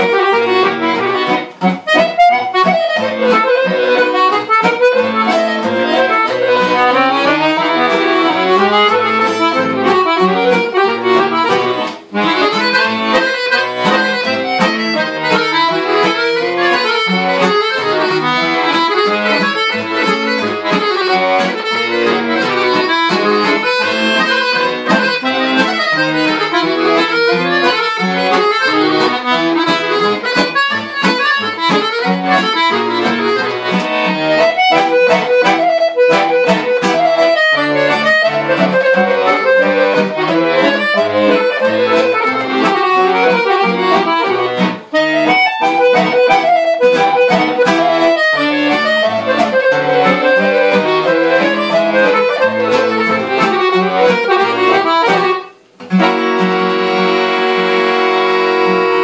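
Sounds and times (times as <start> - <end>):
acoustic guitar strumming: 0.0 - 59.0
piano accordion dance tune: 0.0 - 59.0.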